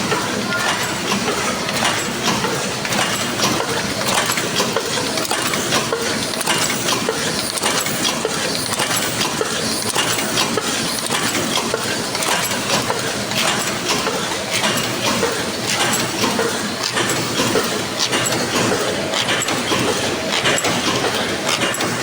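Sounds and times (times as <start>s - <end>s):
machine clicking and clinking rapidly: 0.0s - 22.0s.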